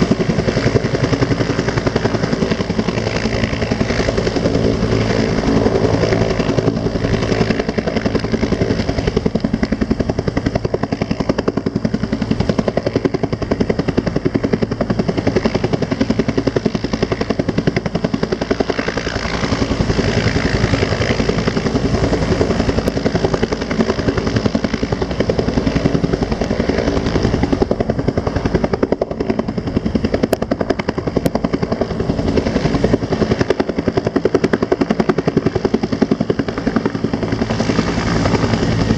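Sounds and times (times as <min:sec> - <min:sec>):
helicopter rotor chopping: 0:00.0 - 0:38.9
turbine whine: 0:00.0 - 0:38.9.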